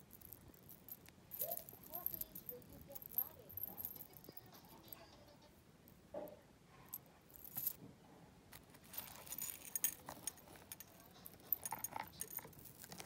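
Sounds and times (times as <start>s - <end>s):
metal jewellery clinking: 0.0s - 7.8s, 8.5s - 13.0s.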